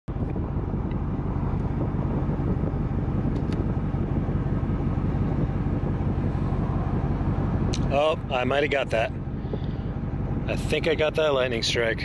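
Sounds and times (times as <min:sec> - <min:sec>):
vehicle engine idling: 0:00.1 - 0:12.0.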